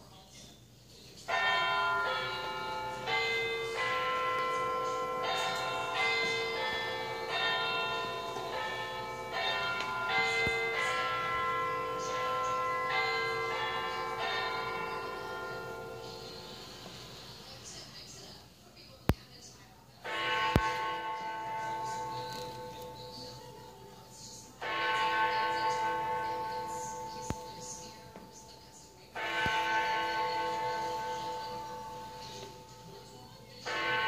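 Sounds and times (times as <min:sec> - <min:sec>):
clock chiming bell notes: 0:01.3 - 0:16.9, 0:20.0 - 0:34.0.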